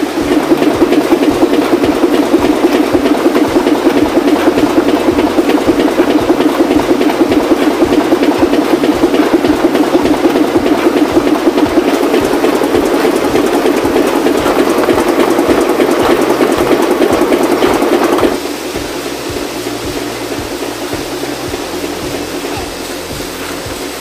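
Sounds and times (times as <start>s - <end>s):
printing press clattering: 0.0s - 24.0s.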